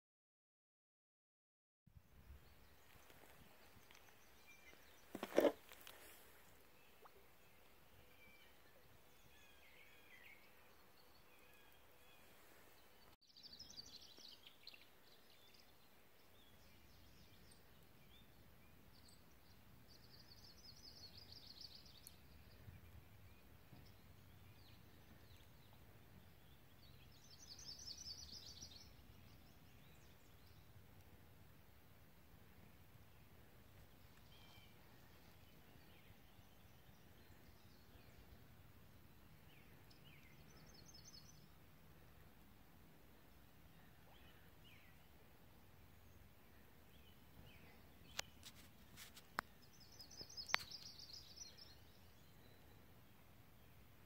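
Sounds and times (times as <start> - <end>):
distant birds chirping: 2.4 - 53.9.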